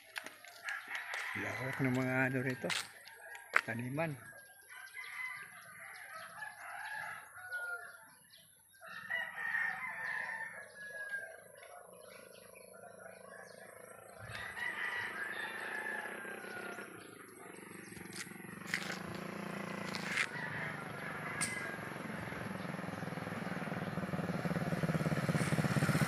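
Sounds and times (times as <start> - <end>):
roosters crowing: 0.5 - 8.2, 8.8 - 11.6, 14.0 - 26.0.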